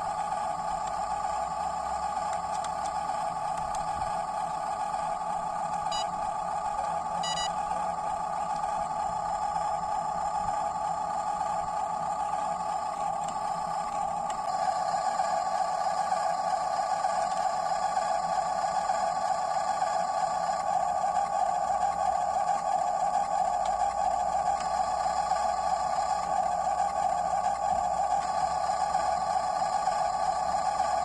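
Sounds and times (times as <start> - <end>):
small electric motor whining: 0.0 - 31.0.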